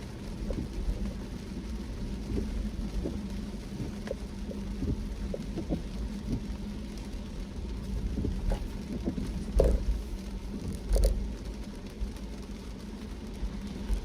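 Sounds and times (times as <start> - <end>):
car road rumble: 0.0 - 14.0
faint hum: 0.0 - 14.0.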